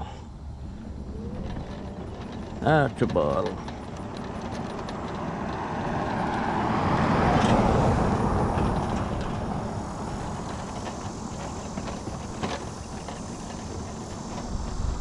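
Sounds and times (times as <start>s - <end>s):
scooter rumbling over grass: 0.4s - 15.0s
car passing: 0.5s - 15.0s.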